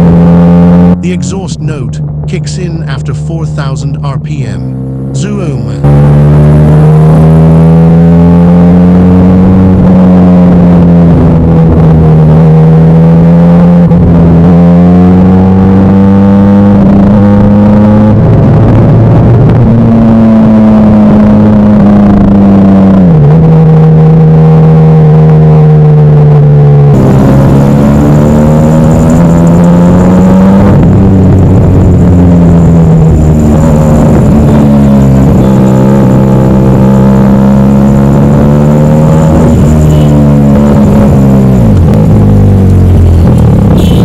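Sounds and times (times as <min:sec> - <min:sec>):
motorcycle engine at high revs: 0:00.0 - 0:44.0.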